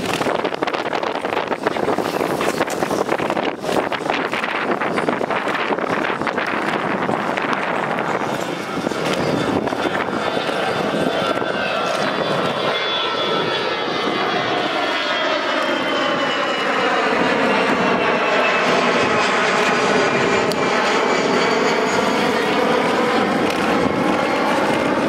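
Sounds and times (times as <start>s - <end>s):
aircraft engine whine: 0.0s - 25.0s
wind and rolling noise: 0.0s - 25.0s.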